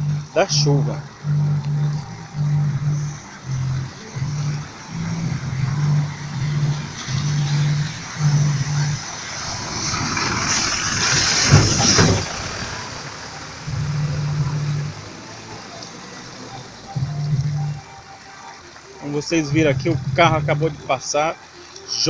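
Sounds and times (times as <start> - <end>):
bass line of loud music: 0.0 - 12.5, 13.6 - 15.1, 16.6 - 21.3
truck tyres splashing water: 0.0 - 22.0.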